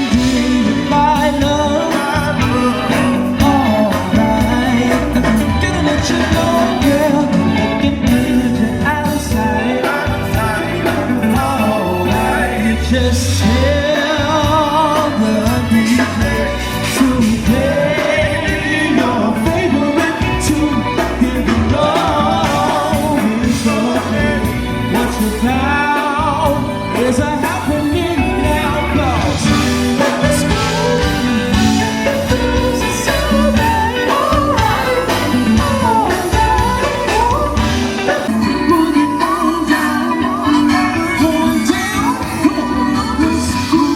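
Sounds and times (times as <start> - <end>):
band playing loud music: 0.0 - 43.9
lead singer singing: 0.0 - 43.9.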